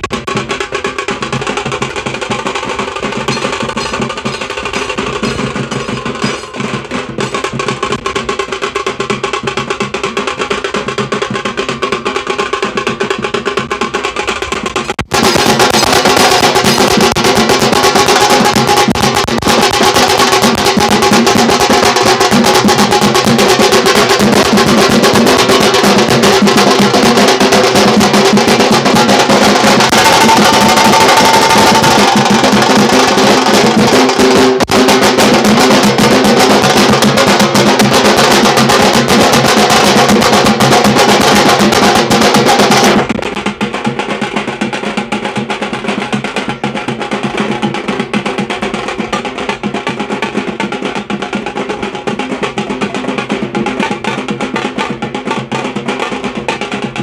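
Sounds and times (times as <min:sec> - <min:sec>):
drum roll with sticks: 0:00.0 - 0:57.0.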